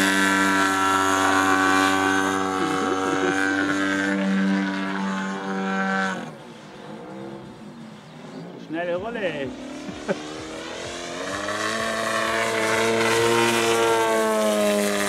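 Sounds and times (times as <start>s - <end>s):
model plane engine: 0.0s - 15.0s.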